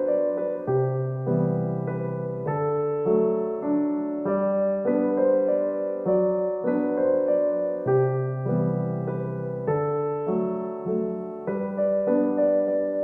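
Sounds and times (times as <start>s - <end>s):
soft electric piano music: 0.0s - 13.0s.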